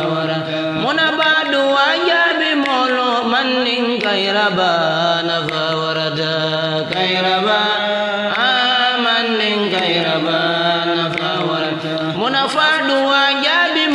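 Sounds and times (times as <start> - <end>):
person chanting: 0.0 - 13.9.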